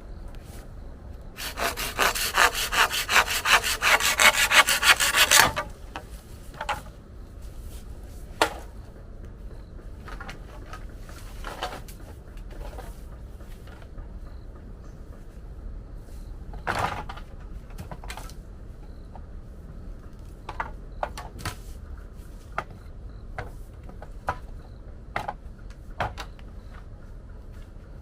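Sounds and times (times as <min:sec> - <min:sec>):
rustle: 0:00.0 - 0:28.0.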